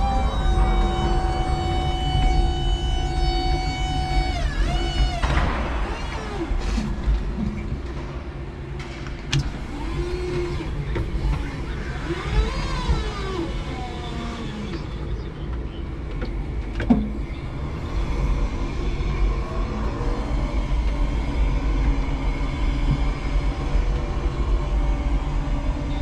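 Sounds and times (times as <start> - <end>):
electric forklift motors whining: 0.0 - 26.0
steady low rumble: 0.0 - 26.0.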